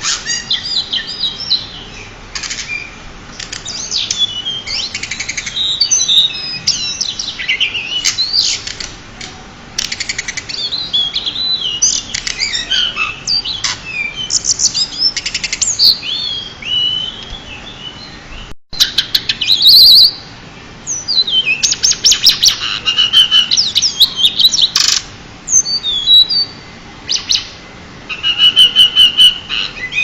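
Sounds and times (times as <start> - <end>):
bird song whistles and chirps: 0.0 - 8.8, 9.8 - 20.3, 20.9 - 30.0.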